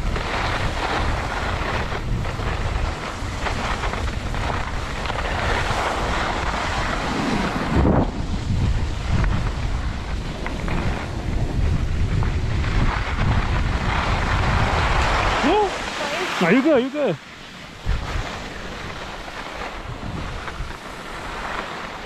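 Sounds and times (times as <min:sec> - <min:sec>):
skis sliding over snow: 0:00.0 - 0:22.0
wind buffeting microphone: 0:00.0 - 0:22.0.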